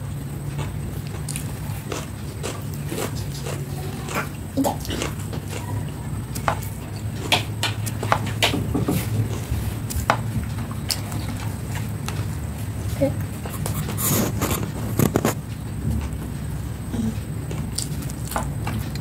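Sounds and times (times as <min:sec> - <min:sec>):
low steady hum: 0:00.0 - 0:19.0
person chewing food: 0:00.4 - 0:15.5, 0:17.0 - 0:19.0.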